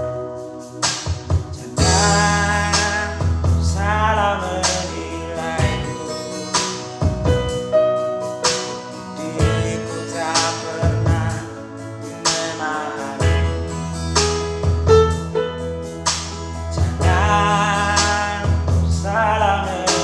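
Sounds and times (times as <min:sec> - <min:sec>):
pop song instrumental: 0:00.0 - 0:20.0.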